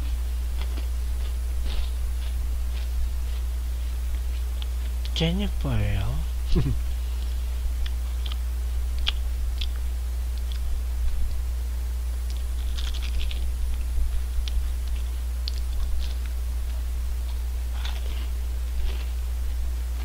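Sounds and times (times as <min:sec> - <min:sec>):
crunching and chewing: 0:00.0 - 0:05.2, 0:06.9 - 0:11.5, 0:12.1 - 0:20.0
steady low hum: 0:00.0 - 0:20.0.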